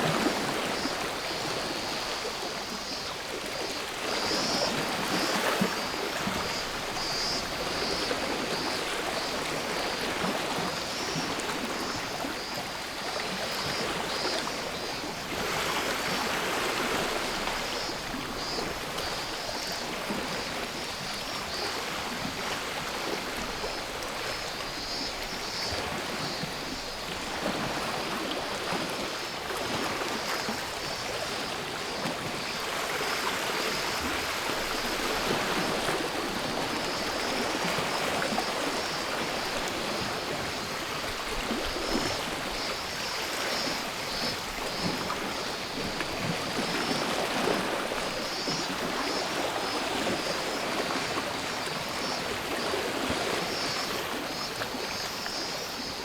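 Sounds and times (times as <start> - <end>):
cicadas singing: 0.5 - 21.8, 23.5 - 27.3, 29.1 - 56.0.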